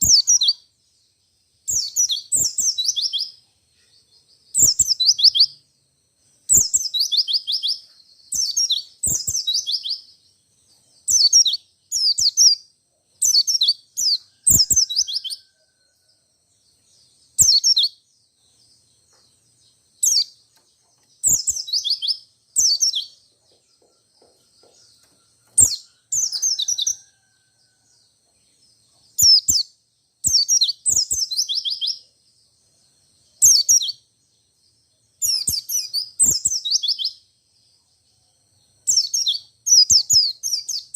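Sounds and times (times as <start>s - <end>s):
bird chirps and trills: 0.0s - 40.9s.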